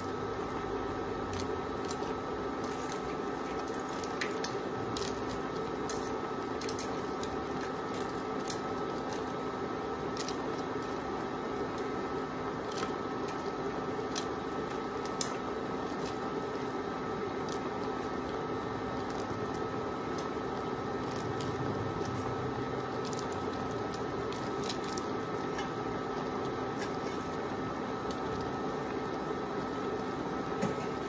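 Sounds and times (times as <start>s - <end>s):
cooktop hum with high tones: 0.0s - 31.0s
food crackling and popping in pan: 1.2s - 30.8s.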